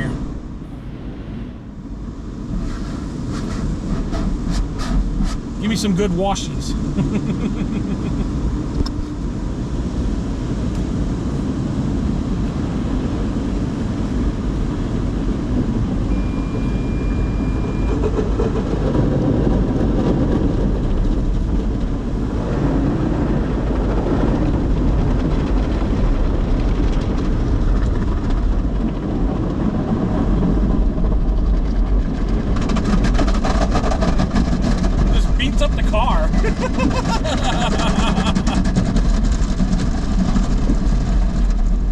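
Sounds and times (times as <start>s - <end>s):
car wash water spray rumble: 0.0s - 41.9s.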